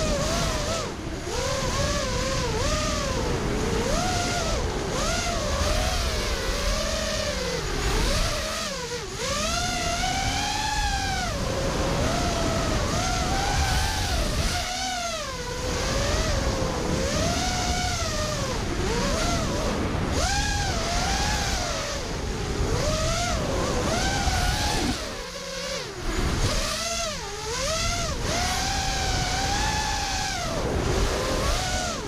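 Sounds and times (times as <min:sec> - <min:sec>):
drone motors whining: 0:00.0 - 0:32.0
wind noise: 0:00.0 - 0:32.0.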